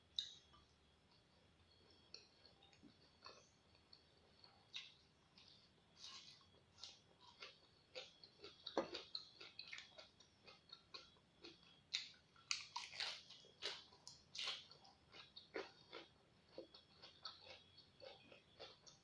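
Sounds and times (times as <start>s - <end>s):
chewing crunchy raw vegetables: 1.1s - 19.0s.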